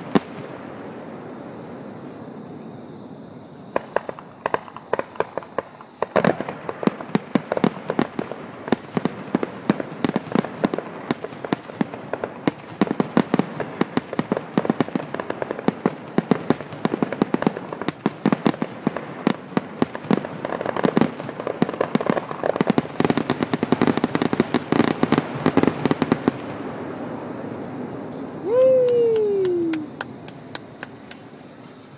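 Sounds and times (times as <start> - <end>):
fireworks bursting: 0.0 - 31.9.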